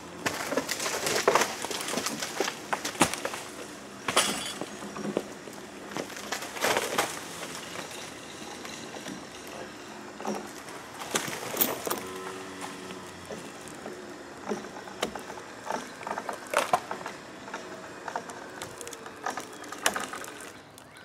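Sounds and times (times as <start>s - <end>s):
tree trunk cracking: 0.1s - 8.0s, 10.6s - 21.0s
roots tearing out of ground: 0.1s - 8.9s, 10.4s - 21.0s.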